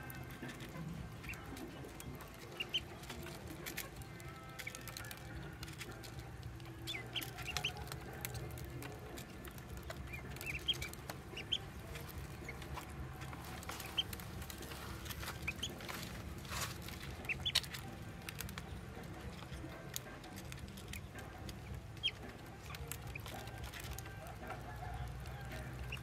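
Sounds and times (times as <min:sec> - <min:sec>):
bills tapping feed dish: 0:00.0 - 0:26.0
ducklings peeping: 0:00.0 - 0:26.0.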